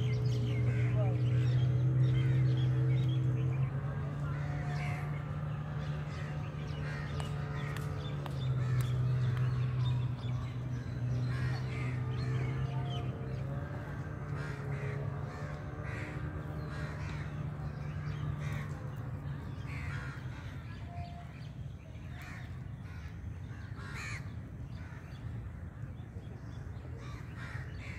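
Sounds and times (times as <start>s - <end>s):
birds calling harshly: 0.0s - 27.9s.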